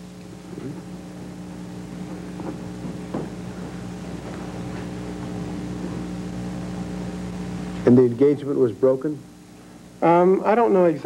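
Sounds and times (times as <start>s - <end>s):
electrical hum: 0.0s - 11.0s
tape hiss: 0.0s - 11.0s.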